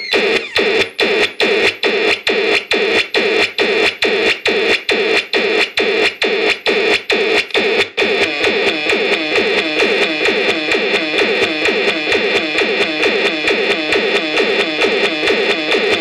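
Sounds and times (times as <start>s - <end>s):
synthesizer techno loop: 0.0s - 16.0s.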